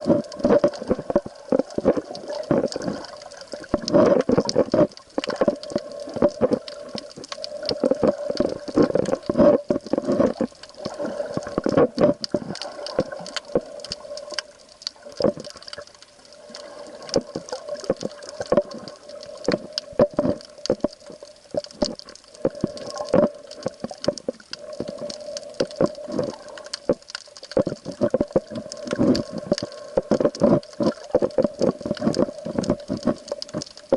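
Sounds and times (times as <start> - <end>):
irregular clicks and crackles: 0.0 - 33.9
water sloshing and bubbling: 0.0 - 33.9.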